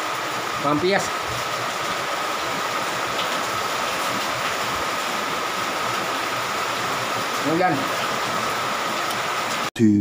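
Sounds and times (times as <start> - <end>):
steady rain falling: 0.0 - 9.7.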